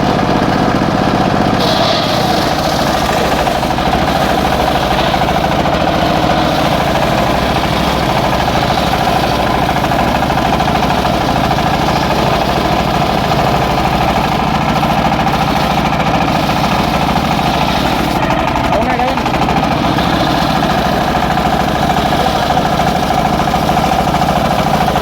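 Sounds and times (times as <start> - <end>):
sawmill engine droning: 0.0 - 25.0.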